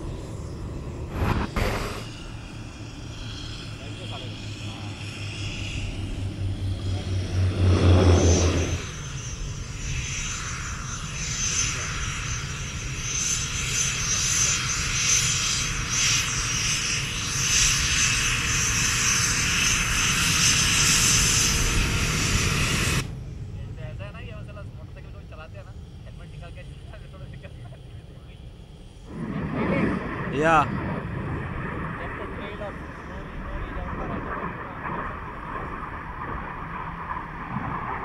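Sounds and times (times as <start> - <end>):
jet engine whine: 0.0 - 38.0
propeller plane drone: 0.0 - 38.0.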